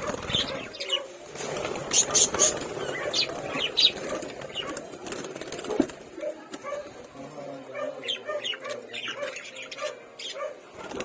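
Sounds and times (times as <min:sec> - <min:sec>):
lovebirds chirping: 0:00.0 - 0:10.9.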